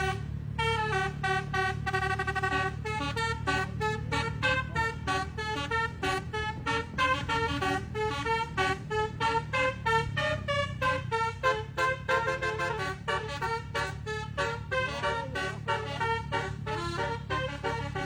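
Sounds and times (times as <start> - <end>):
musical bus horn tune: 0.0 - 18.0.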